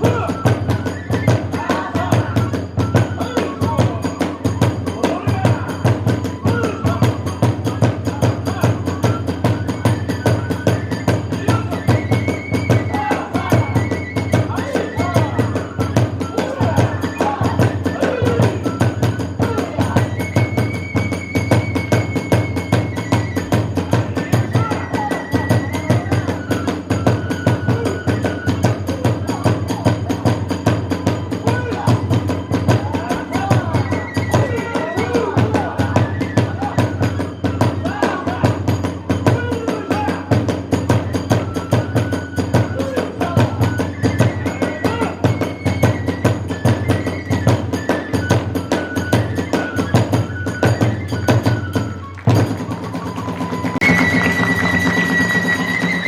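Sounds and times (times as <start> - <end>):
fast drumming: 0.0 - 56.0
transverse flute melody: 0.0 - 56.0.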